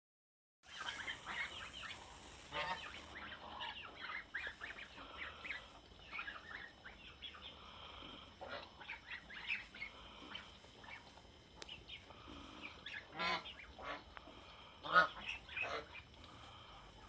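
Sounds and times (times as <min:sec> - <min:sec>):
geese honking and gabbling: 0:00.7 - 0:17.0.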